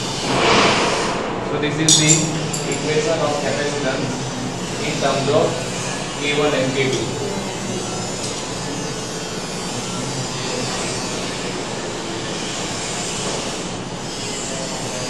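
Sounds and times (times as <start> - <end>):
steady microphone hiss: 0.0 - 13.0.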